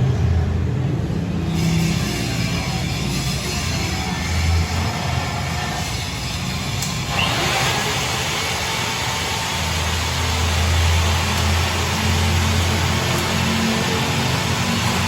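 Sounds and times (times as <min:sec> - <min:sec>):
motor humming: 0:02.6 - 0:15.0.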